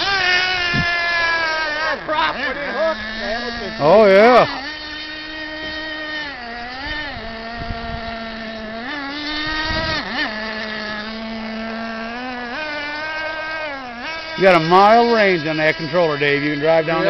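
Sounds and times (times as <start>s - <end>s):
toy boat motor running: 0.0s - 17.0s.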